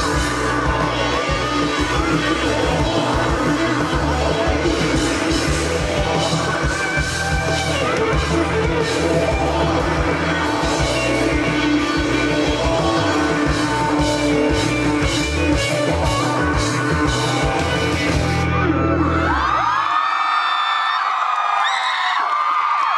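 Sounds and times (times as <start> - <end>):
drum kit: 0.0 - 18.9
electric guitar: 0.0 - 19.9.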